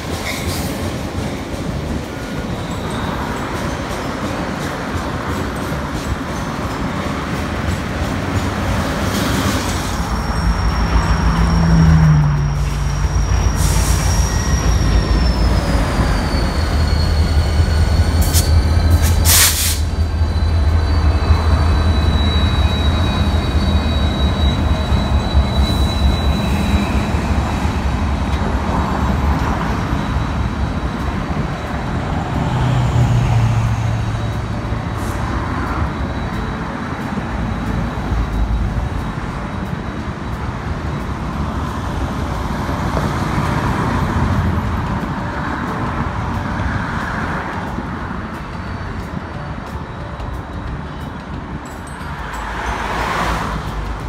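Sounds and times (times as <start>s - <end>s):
high wheel squeal: 2.2s - 40.4s, 46.5s - 50.2s, 51.7s - 54.0s.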